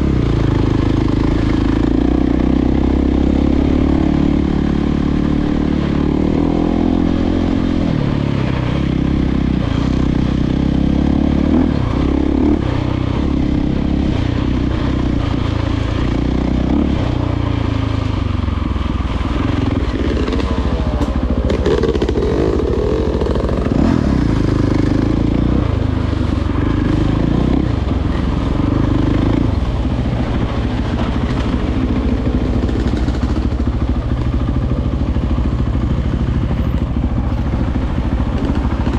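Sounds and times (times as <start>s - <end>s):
dirt bike engine revving: 0.0s - 34.7s.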